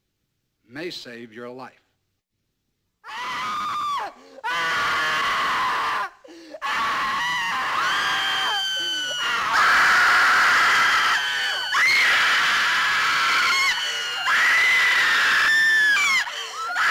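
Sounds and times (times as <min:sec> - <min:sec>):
people screaming: 0:03.1 - 0:16.9.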